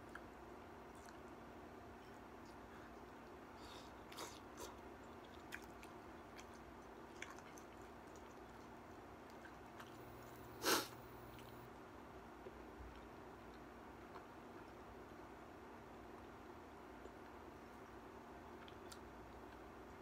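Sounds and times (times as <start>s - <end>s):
person chewing food: 0.0s - 1.4s, 2.0s - 10.6s, 12.4s - 15.3s, 15.9s - 20.0s.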